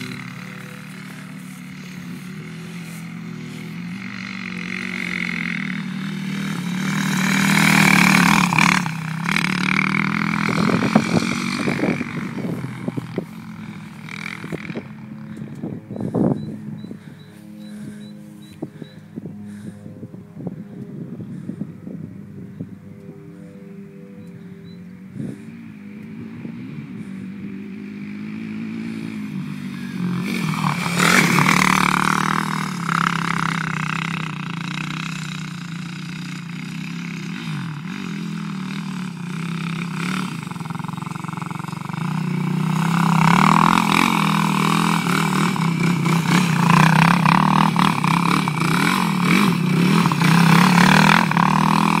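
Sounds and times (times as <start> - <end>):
quad engine revving: 0.0 - 18.8, 19.4 - 19.8, 25.1 - 52.0.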